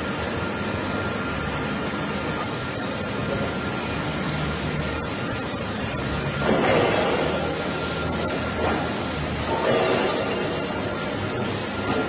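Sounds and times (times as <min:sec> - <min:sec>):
machinery noise: 0:02.3 - 0:12.0.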